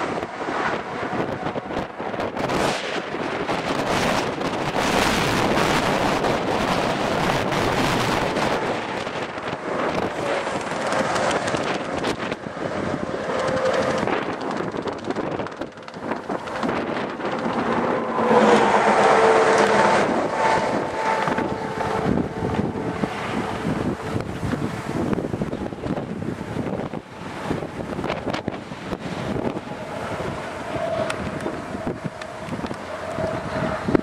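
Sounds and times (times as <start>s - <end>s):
gusty wind buffeting microphone: 0.0s - 34.0s.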